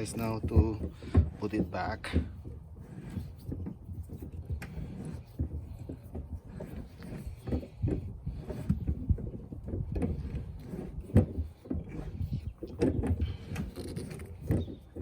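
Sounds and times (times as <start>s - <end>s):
spare tire winch clunking and rattling: 0.0s - 15.0s.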